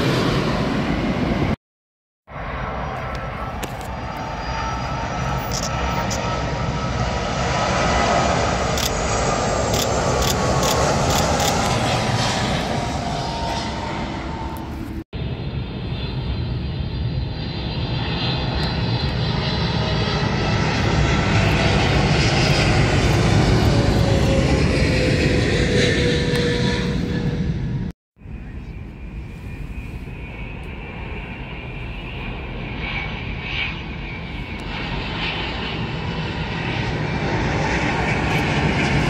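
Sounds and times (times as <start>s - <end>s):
jet airliner passing overhead: 0.0s - 1.6s, 2.3s - 39.0s.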